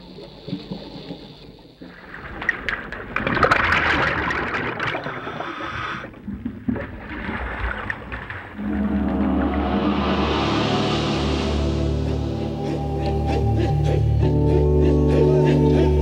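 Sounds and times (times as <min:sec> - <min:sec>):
water sloshing and gurgling: 0:00.0 - 0:14.1.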